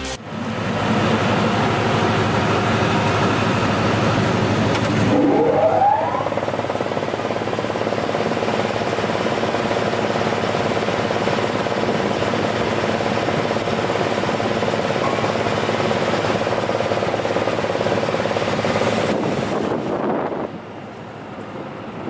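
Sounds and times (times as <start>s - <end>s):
wood chipper running: 0.0s - 21.2s.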